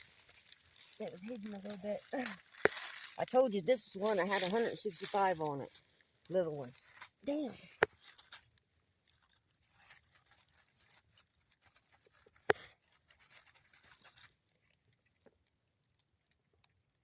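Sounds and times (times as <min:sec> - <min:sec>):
dry leaves crackling and rustling: 0:00.0 - 0:14.9.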